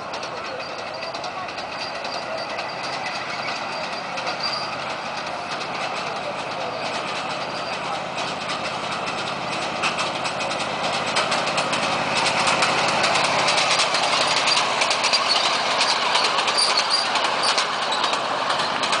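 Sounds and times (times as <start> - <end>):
small locomotive engine running: 0.0 - 19.0.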